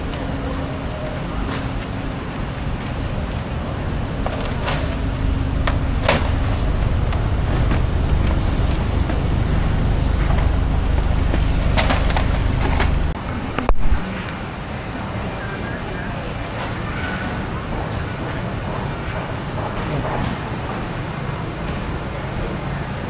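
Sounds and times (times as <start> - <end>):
motor vehicle engine rumbling: 0.0 - 22.6
intermittent hum: 0.0 - 23.0.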